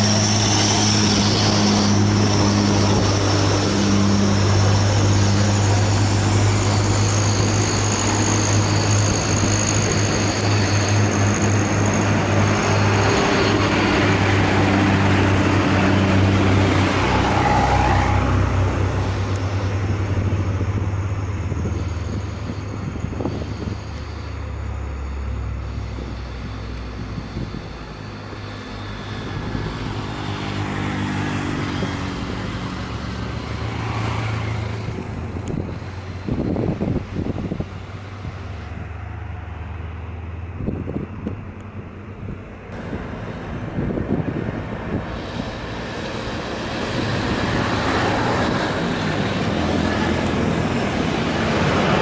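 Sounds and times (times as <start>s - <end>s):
truck diesel engine labouring: 0.0s - 52.0s.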